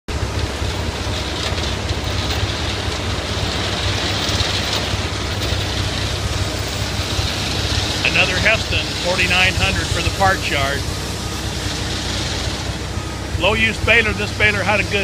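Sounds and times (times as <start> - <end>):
engine rumbling: 0.1 - 15.0.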